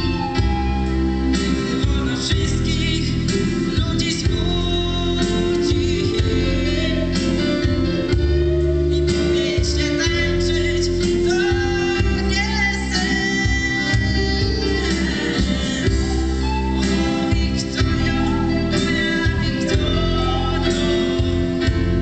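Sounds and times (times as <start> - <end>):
lead singer singing: 0.0 - 22.0
live pop band playing: 0.0 - 22.0.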